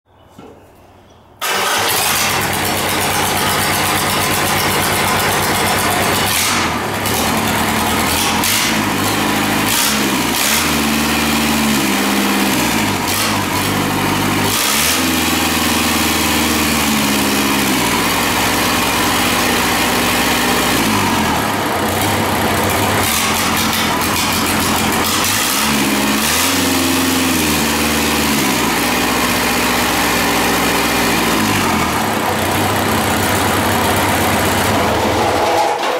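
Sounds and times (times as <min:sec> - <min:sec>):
diesel engine revving and idling: 0:01.4 - 0:35.8.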